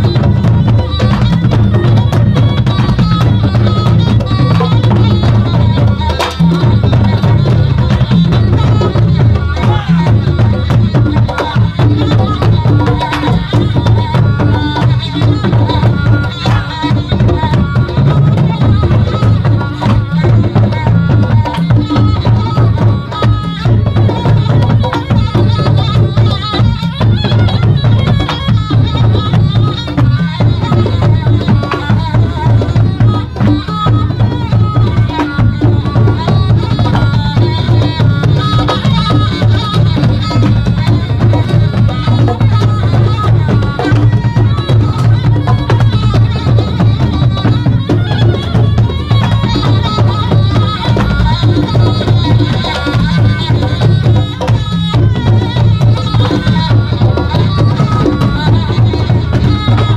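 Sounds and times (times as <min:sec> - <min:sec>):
drums and percussion: 0:00.0 - 0:59.9
traditional ensemble music: 0:00.0 - 0:59.9.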